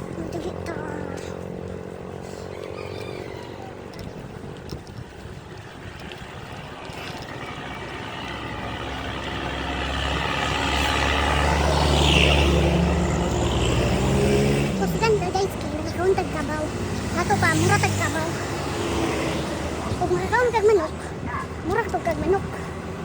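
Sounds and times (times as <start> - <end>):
road noise: 0.0 - 23.0
vehicle engine running: 0.0 - 23.0.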